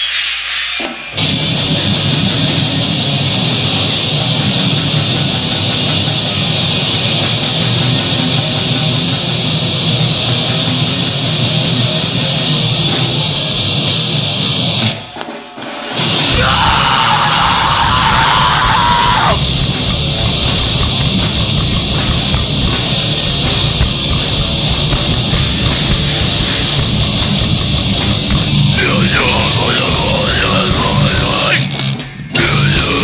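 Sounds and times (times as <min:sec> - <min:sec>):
live rock band playing loud: 0:00.0 - 0:33.0.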